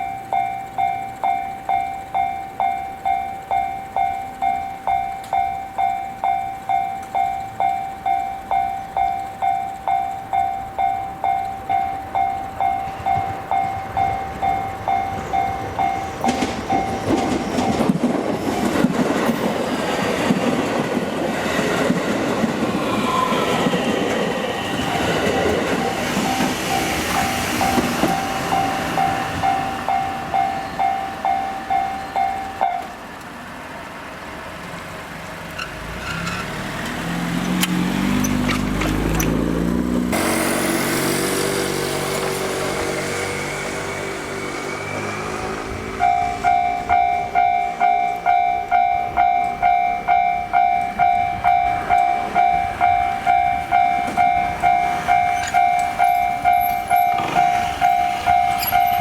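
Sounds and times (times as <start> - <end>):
level crossing warning bell: 0.0 - 33.2, 40.1 - 59.0
train wheels clattering over rails: 0.0 - 33.3, 35.4 - 59.0.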